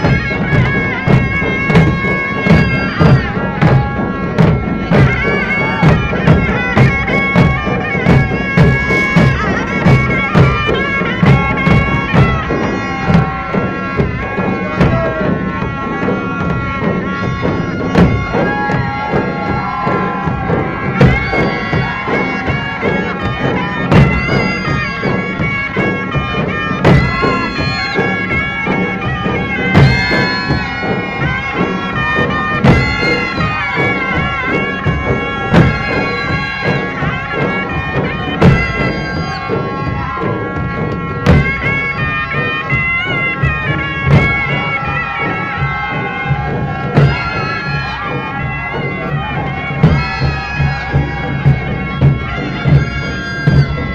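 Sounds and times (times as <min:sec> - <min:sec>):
heavy drum strokes: 0:00.0 - 0:53.9
reedy wind instrument melody: 0:00.0 - 0:53.9
steady drum beats: 0:00.0 - 0:53.9.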